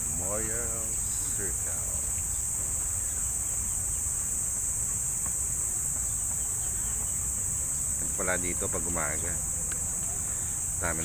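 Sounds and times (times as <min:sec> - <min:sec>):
high-pitched insect chorus: 0:00.0 - 0:11.0
low outdoor rumble: 0:00.0 - 0:11.0.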